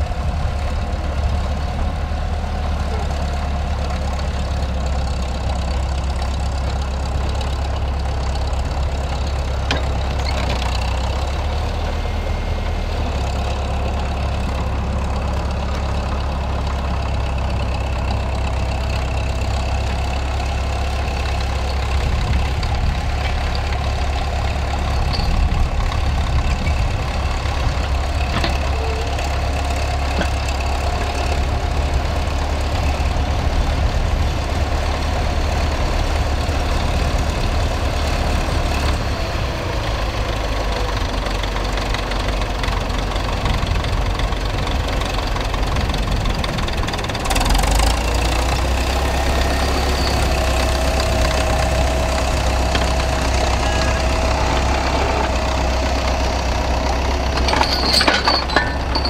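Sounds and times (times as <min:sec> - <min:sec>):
diesel tractor engine under load: 0:00.0 - 0:59.0.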